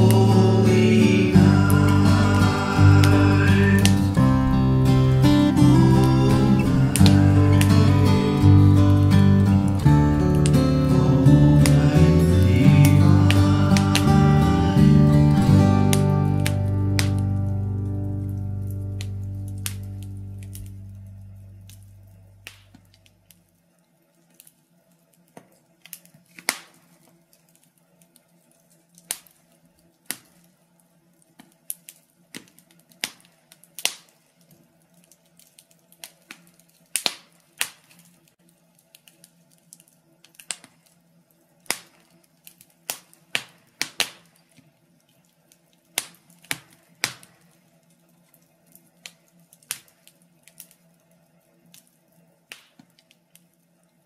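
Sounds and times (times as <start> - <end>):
faint steady hum: 0.0 - 54.0
wood fire crackling and popping: 0.0 - 54.0.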